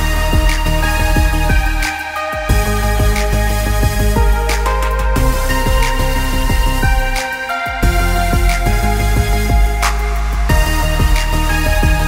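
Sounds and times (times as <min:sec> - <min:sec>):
deep kick drums: 0:00.0 - 0:04.5, 0:05.1 - 0:07.2, 0:07.8 - 0:12.0.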